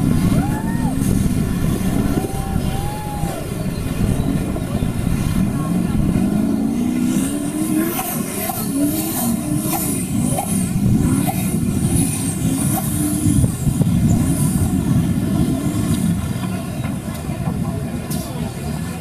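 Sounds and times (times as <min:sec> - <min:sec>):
off-road truck engine revving: 0:00.0 - 0:19.0.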